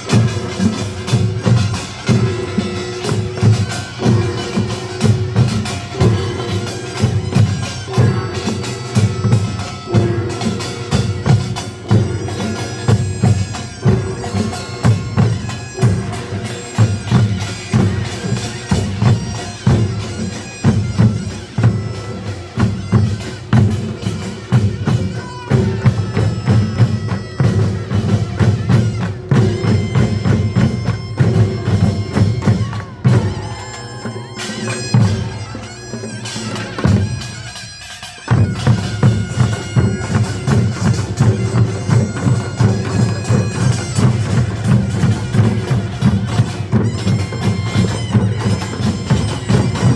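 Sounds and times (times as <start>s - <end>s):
drums beating fast rhythm: 0.0s - 49.9s
shawm playing reedy melody: 0.0s - 49.9s.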